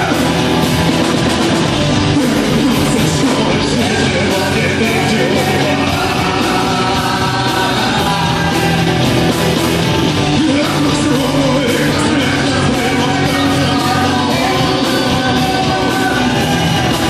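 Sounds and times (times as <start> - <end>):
rock band playing: 0.0 - 17.0
person singing: 1.9 - 17.0.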